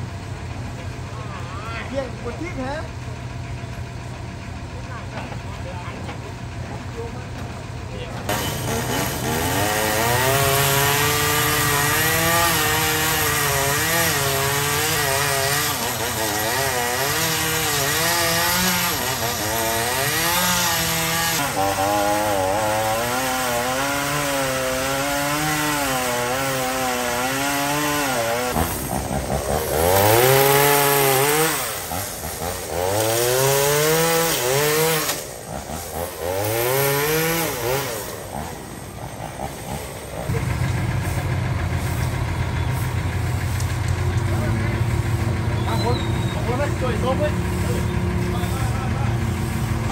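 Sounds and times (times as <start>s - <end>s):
chainsaw revving: 8.2s - 49.9s
chainsaw cutting wood: 8.3s - 49.9s.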